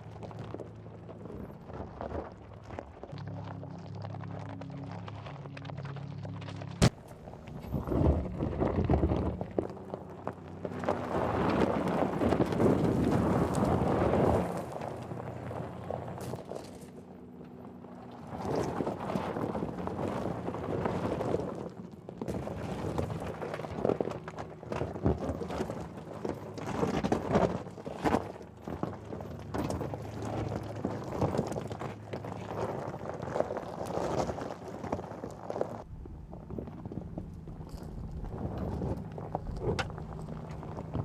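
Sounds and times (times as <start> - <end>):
low steady hum: 0.0 - 41.0
tyres crunching over gravel: 0.0 - 41.0.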